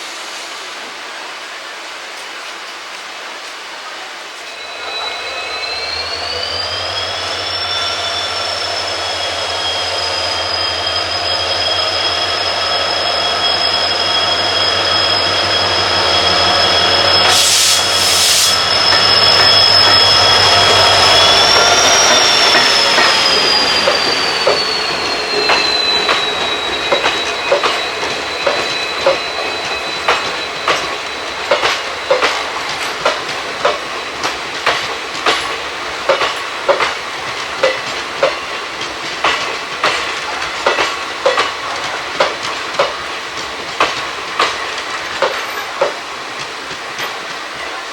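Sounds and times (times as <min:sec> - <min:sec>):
train wheels squealing: 0:04.4 - 0:47.9
train wheels clickety-clack: 0:06.2 - 0:47.9.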